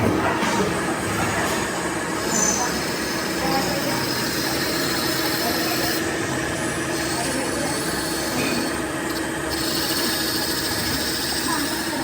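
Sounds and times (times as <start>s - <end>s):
factory machinery running: 0.0s - 12.0s
high steady tones: 2.2s - 12.0s.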